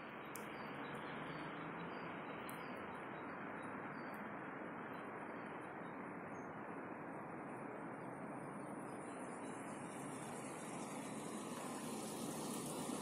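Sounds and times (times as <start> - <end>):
tiny high tinkles and ticks: 0.0 - 6.6, 7.4 - 13.0
faint outdoor hiss: 0.0 - 13.0.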